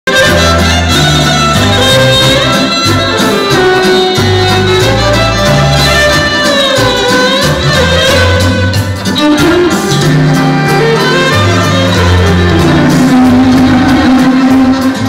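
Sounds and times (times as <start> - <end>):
loud dance music: 0.1 - 15.0.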